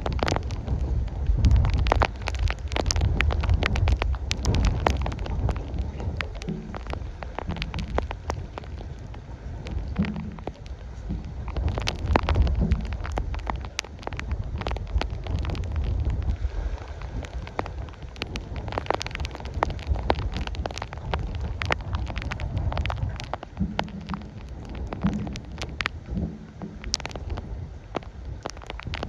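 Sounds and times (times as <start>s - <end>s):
raindrops ticking: 0.0s - 29.0s
wind buffeting microphone: 0.0s - 29.0s.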